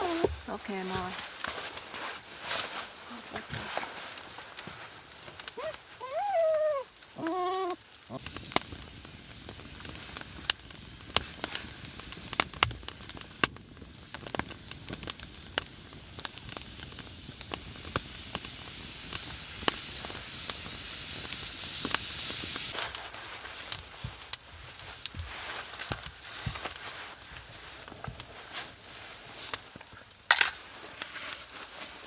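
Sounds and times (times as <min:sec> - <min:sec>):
fire hiss: 0:00.0 - 0:32.0
wood fire crackling and popping: 0:00.0 - 0:32.0.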